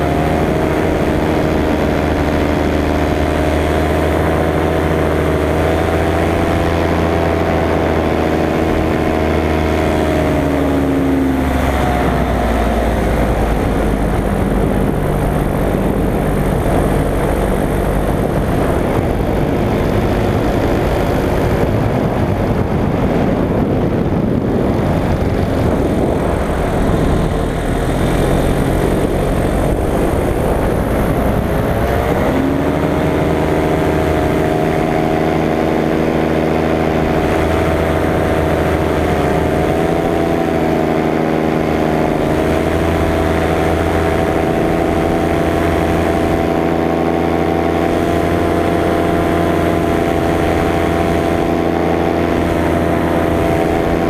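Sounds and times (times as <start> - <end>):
paramotor engine running: 0.0 - 54.0
rushing air: 0.0 - 54.0.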